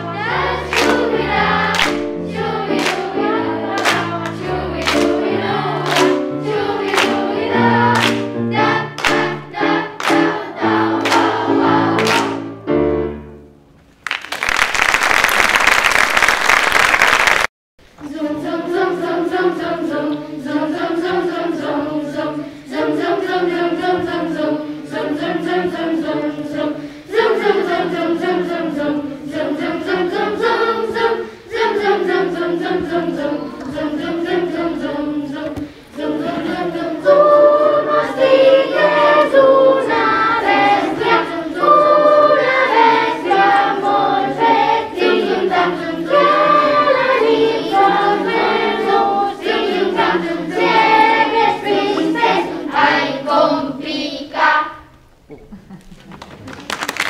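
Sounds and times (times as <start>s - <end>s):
children's choir singing: 0.0s - 13.4s, 17.9s - 55.7s.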